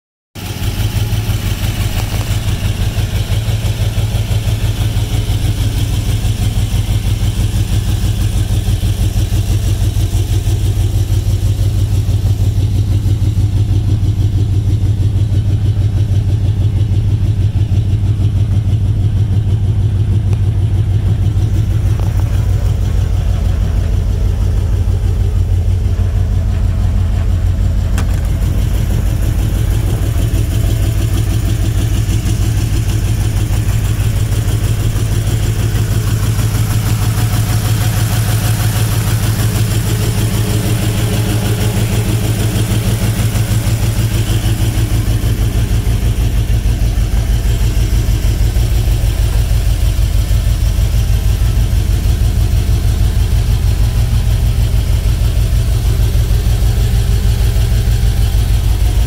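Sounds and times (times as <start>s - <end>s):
engine idling: 0.4s - 59.0s.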